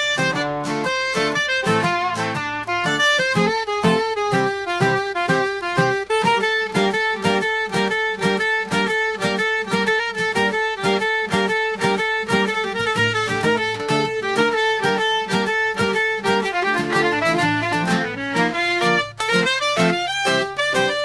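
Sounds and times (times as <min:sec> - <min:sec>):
lively fiddle tune: 0:00.0 - 0:21.0
plucked strings: 0:00.0 - 0:21.0
steady beat: 0:00.0 - 0:21.0.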